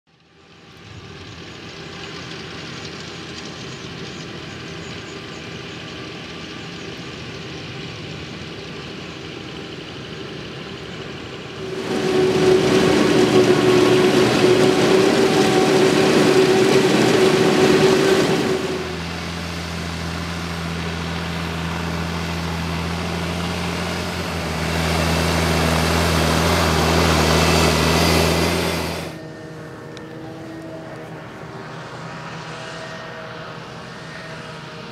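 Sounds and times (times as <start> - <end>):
tractor engine drone: 0.1 - 34.9
forage harvester engine whining: 0.2 - 34.9.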